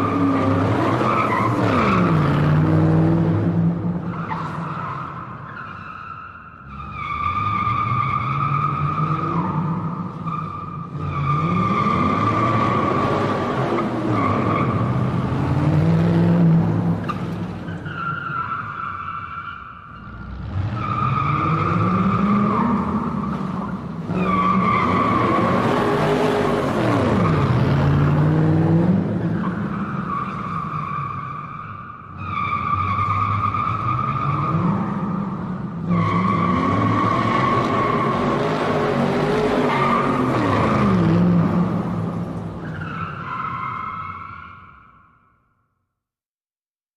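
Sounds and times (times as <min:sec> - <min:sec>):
car tyres screeching: 0:00.0 - 0:45.3.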